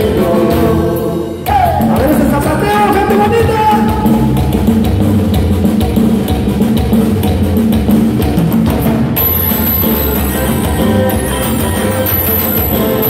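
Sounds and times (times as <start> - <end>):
live band playing dance music: 0.0 - 13.0.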